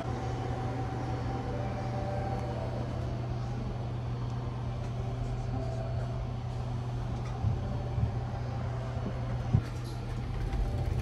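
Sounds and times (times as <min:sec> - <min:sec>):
train low hum: 0:00.0 - 0:11.0.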